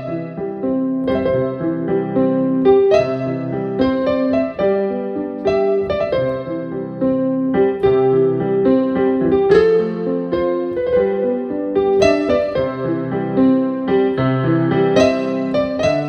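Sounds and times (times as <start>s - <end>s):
slow keyboard melody: 0.0s - 16.0s.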